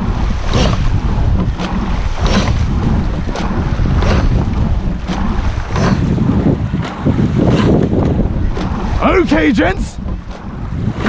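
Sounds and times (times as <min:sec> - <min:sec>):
oars swishing and clunking: 0:00.0 - 0:11.0
wind rumble on microphone: 0:00.0 - 0:11.0.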